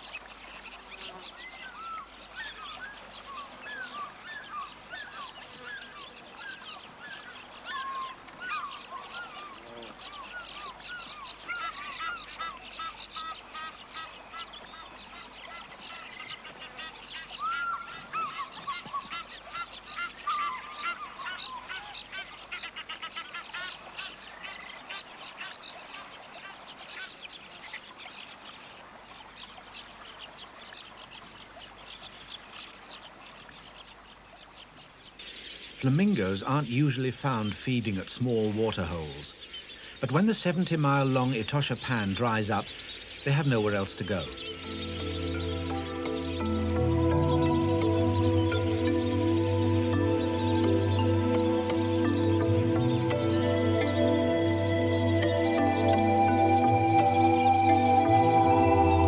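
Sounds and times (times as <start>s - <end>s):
waterbirds calling: 0.0s - 59.0s.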